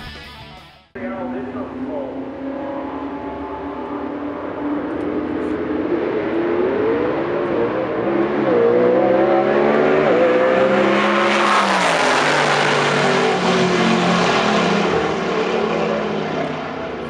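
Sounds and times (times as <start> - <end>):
drag racing car passing at full throttle: 1.0 - 17.0.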